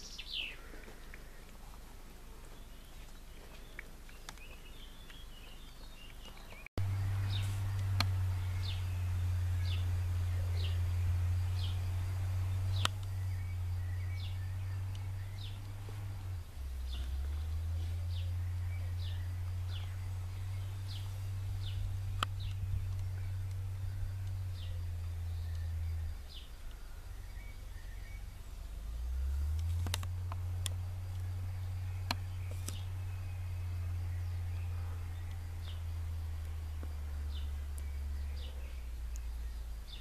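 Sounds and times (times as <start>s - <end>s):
small bird chirping: 0.0s - 1.5s, 2.4s - 40.0s
steady low hum: 0.0s - 40.0s.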